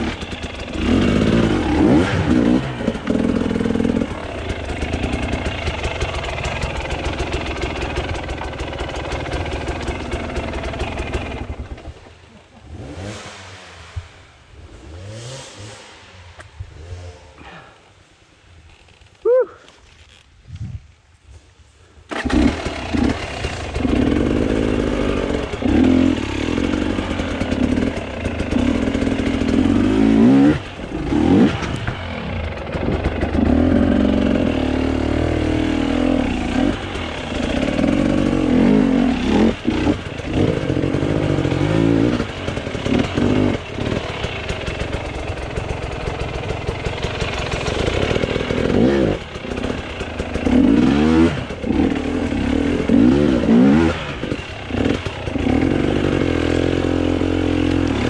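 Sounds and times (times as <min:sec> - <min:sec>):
dirt bike engine starting and revving: 0:00.0 - 0:17.9, 0:22.1 - 0:58.0.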